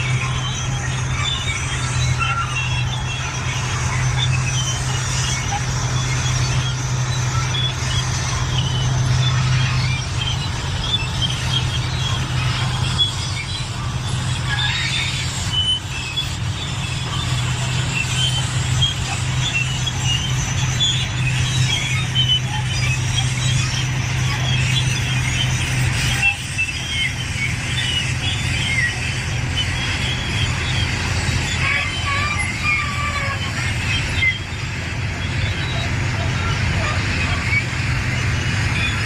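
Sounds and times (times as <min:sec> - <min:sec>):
diesel engine running low: 0:00.0 - 0:39.0
steel tracks squealing: 0:00.0 - 0:39.0.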